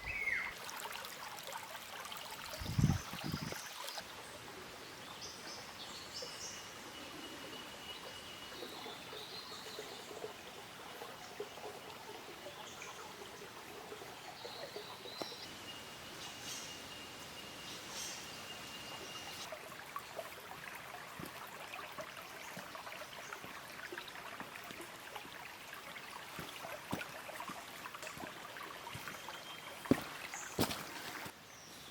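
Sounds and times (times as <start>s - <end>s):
creek running: 0.0s - 31.9s.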